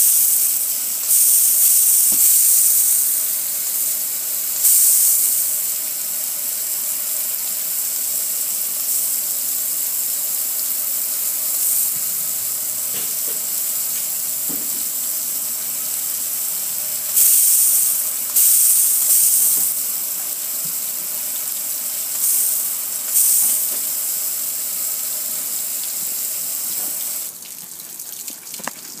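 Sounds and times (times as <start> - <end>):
water spraying onto metal grill: 0.0 - 27.5.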